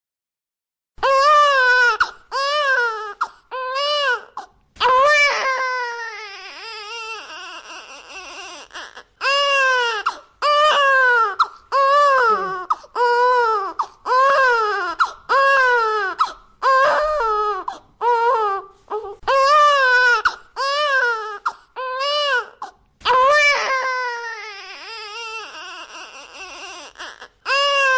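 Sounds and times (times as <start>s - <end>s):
baby crying: 1.0s - 27.9s.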